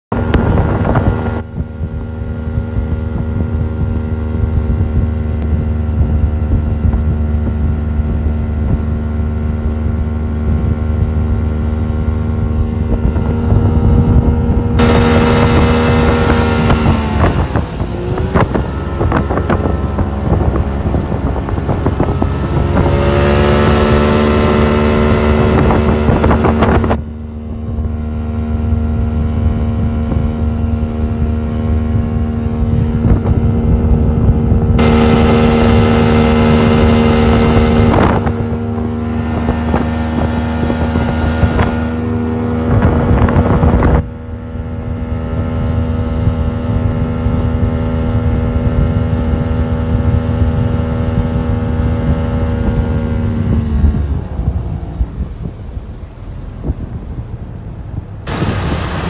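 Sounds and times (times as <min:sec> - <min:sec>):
outboard motor droning: 0:00.1 - 0:59.0
wind rush and churning wake: 0:00.1 - 0:59.0.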